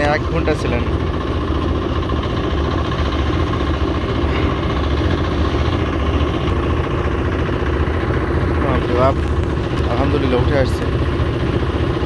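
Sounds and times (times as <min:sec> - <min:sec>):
boat engine chugging at idle: 0:00.0 - 0:12.0.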